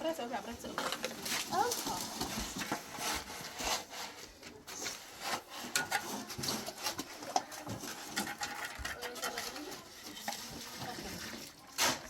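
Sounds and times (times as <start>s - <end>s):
tool scraping gritty mortar: 1.4s - 12.0s.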